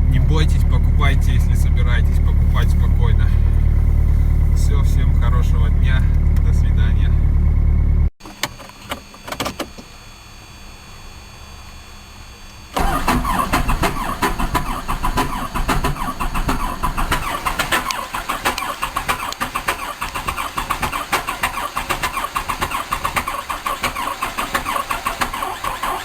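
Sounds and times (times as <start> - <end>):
diesel engine cranking: 0.0 - 9.0, 12.8 - 26.0.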